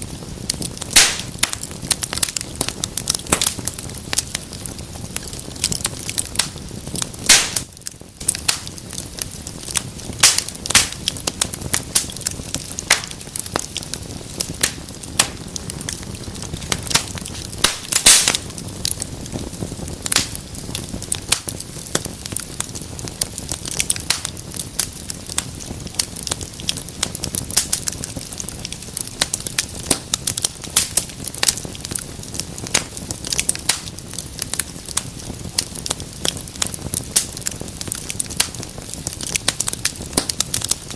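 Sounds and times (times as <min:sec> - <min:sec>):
fire pops: 0:00.0 - 0:40.9
wood fire crackling: 0:00.0 - 0:40.9.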